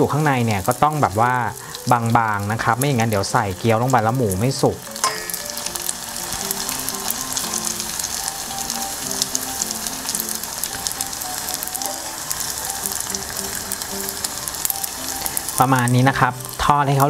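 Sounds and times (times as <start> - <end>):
faint background music: 0.0 - 17.0
food deep-frying in oil: 0.0 - 17.0.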